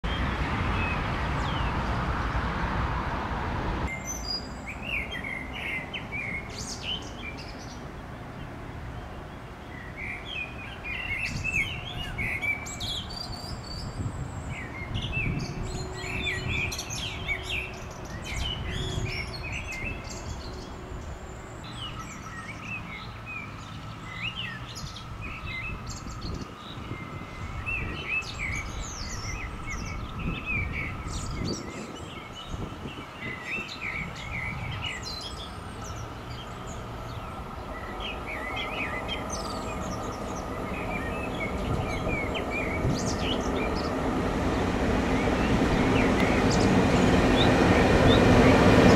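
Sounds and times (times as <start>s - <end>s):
songbirds chirping and singing: 3.9s - 48.9s.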